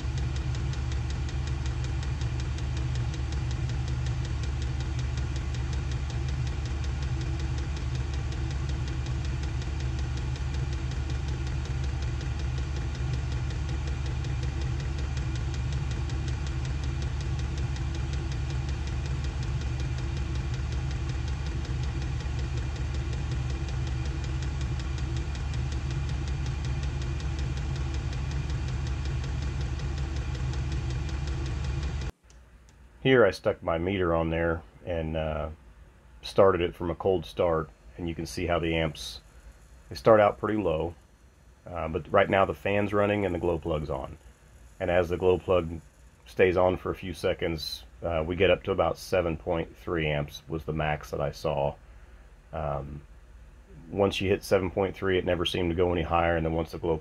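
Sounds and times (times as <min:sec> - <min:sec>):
air heater running: 0:00.0 - 0:57.0.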